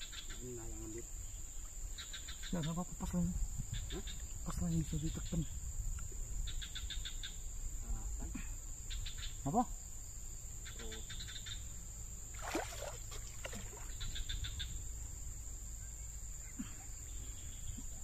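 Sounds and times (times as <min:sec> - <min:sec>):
insect chirping in rapid pulses: 0:00.0 - 0:18.0.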